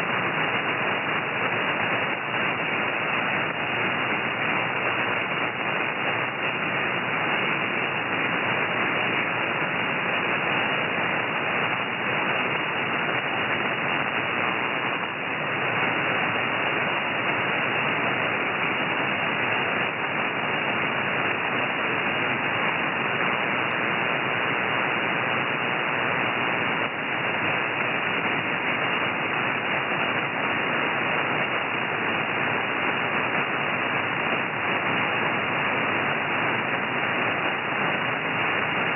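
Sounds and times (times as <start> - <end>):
radio static hiss: 0.0 - 38.9.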